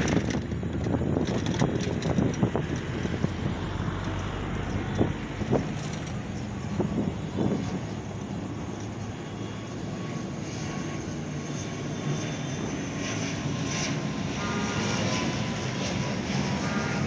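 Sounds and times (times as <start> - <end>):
turboprop airliner drone: 0.0 - 17.0.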